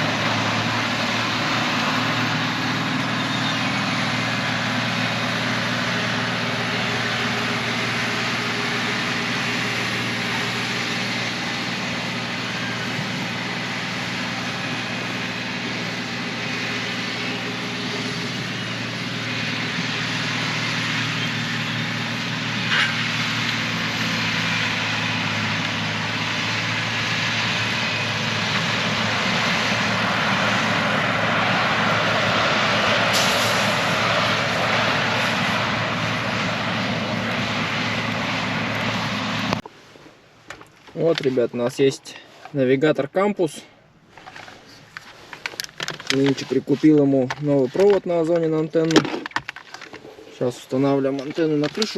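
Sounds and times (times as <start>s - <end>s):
heavy vehicle engine running: 0.0s - 42.6s, 43.8s - 51.9s.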